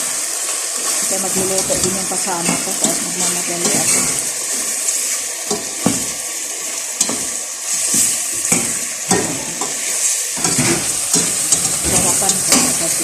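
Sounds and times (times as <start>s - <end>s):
pot sizzling on stove: 0.0s - 13.0s.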